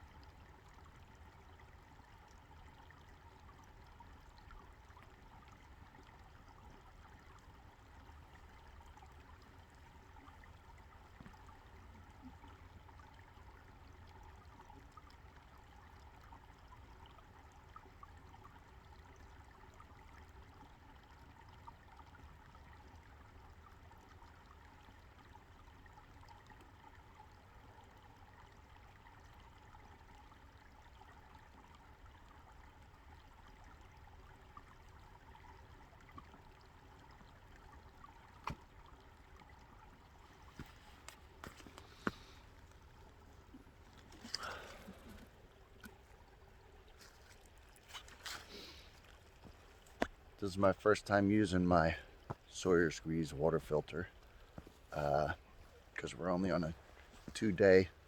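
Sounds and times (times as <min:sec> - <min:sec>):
creek trickling: 0:00.0 - 0:58.0.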